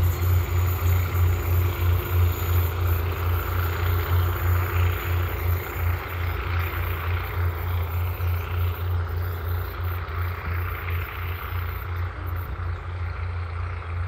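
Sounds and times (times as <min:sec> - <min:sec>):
diesel engine throbbing: 0:00.0 - 0:14.0.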